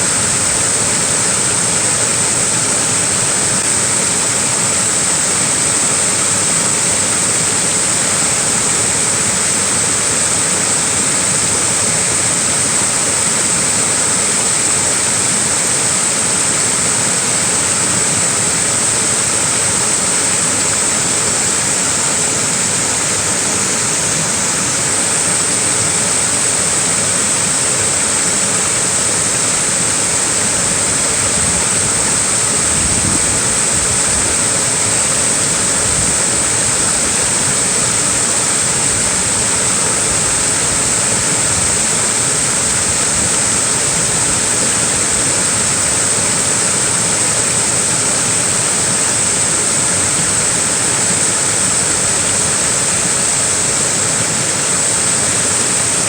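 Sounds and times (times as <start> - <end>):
small waterfall pouring: 0.0 - 56.0.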